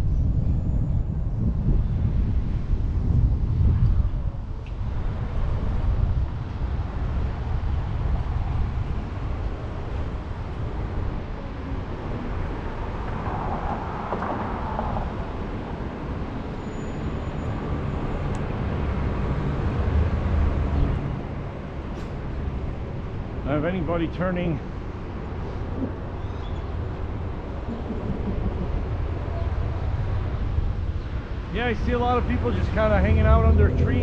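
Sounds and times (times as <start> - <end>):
wind buffeting microphone: 0.0 - 16.6, 17.5 - 34.0
road traffic passing: 2.0 - 34.0.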